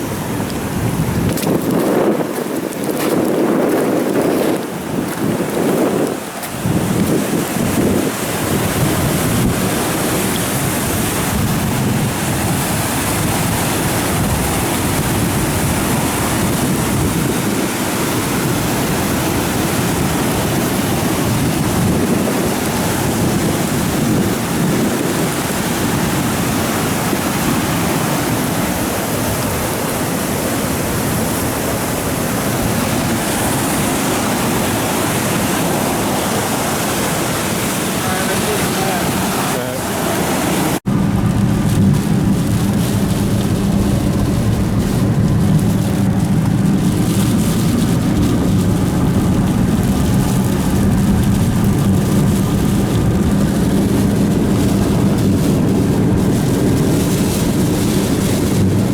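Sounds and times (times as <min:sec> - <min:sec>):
heavy rain: 0:00.0 - 0:58.9
running water: 0:00.0 - 0:58.9
wind on microphone: 0:00.0 - 0:58.9.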